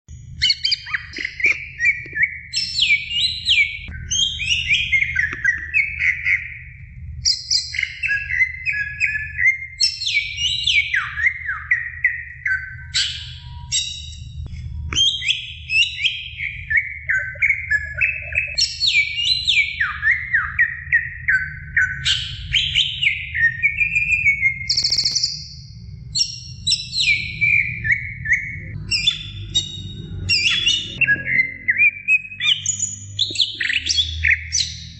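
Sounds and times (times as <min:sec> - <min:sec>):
bird singing whistled phrases: 0:00.2 - 0:14.2, 0:14.9 - 0:25.6, 0:26.2 - 0:34.9.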